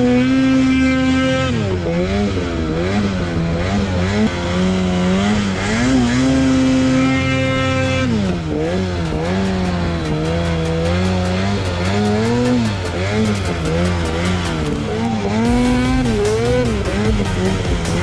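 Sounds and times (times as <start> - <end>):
snowmobile engine revving: 0.0 - 18.0.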